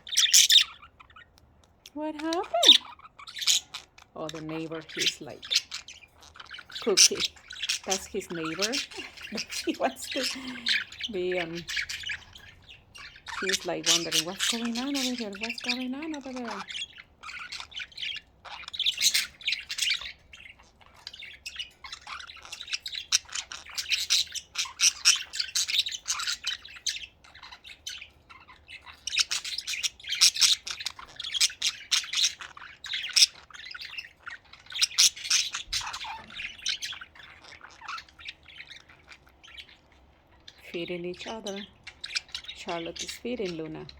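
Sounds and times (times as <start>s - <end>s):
budgerigars chirping: 0.0s - 43.9s.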